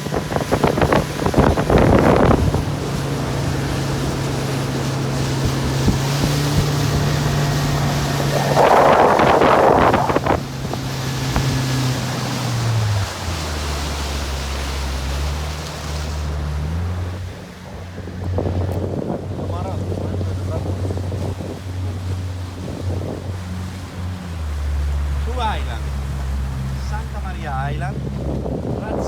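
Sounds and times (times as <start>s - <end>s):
boat engine running: 0.0s - 29.0s
water noise: 0.0s - 29.0s
wind on microphone: 0.0s - 29.0s.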